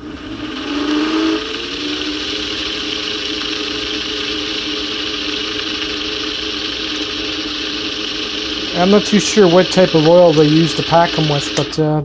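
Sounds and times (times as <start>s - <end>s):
hiss: 0.0s - 11.8s
electric motor whining: 0.0s - 12.0s.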